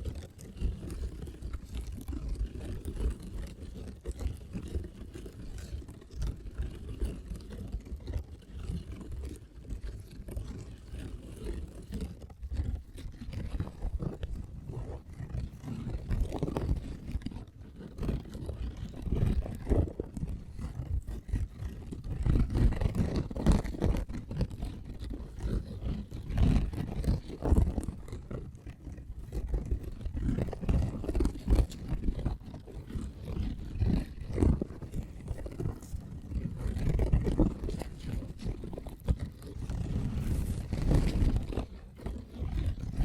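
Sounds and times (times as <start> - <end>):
fingertips scratching microphone: 0.0 - 43.0.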